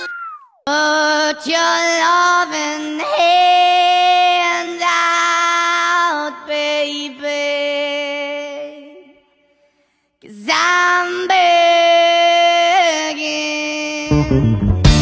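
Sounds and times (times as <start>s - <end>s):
high-pitched singing voice: 0.0s - 9.3s, 10.2s - 14.6s.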